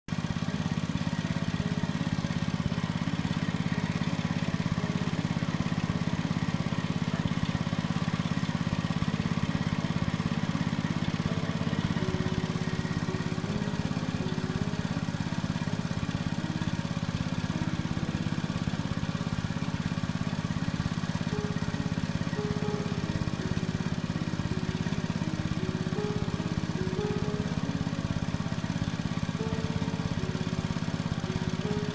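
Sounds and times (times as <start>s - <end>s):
small engine running: 0.1s - 31.9s
simple background melody: 0.4s - 31.9s.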